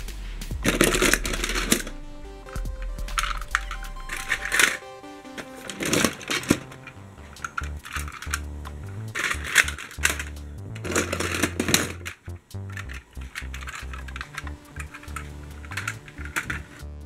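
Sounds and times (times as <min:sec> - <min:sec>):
background music with bass line: 0:00.0 - 0:17.0
toy vehicles clattering in plastic box: 0:00.7 - 0:01.9, 0:02.6 - 0:04.8, 0:05.4 - 0:16.8.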